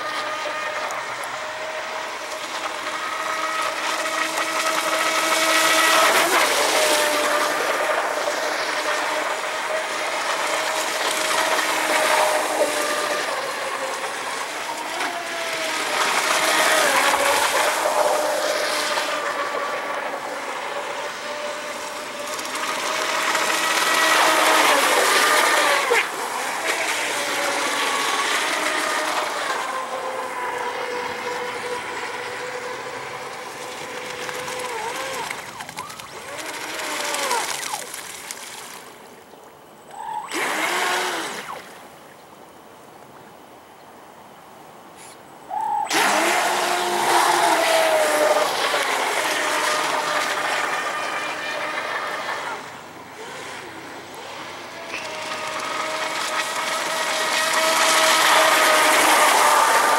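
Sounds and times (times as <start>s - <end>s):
model boat motor whine: 0.0s - 59.9s.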